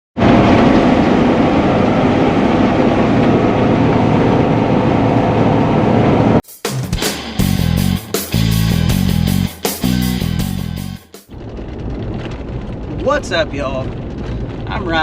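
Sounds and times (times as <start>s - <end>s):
heavy machinery running: 0.2s - 13.0s.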